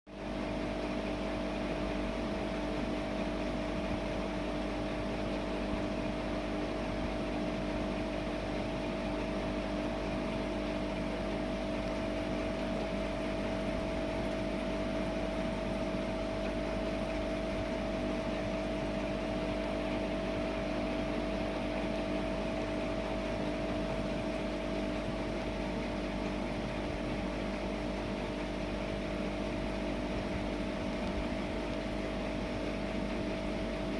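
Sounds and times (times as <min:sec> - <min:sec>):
aquarium pump humming: 0:00.1 - 0:33.9.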